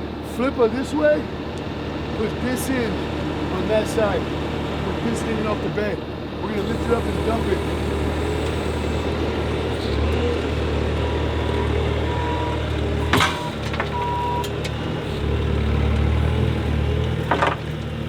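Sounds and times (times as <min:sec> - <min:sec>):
loader engine running: 0:00.0 - 0:18.0.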